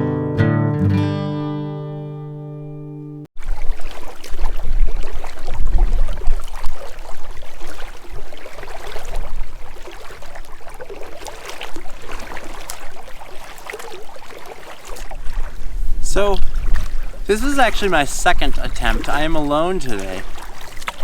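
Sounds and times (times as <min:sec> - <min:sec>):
water splashing around kayak: 0:03.4 - 0:21.0.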